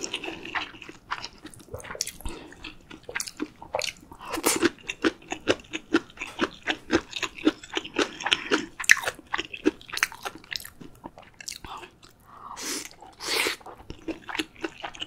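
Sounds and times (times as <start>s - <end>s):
chewing with wet mouth sounds: 0.0s - 15.0s.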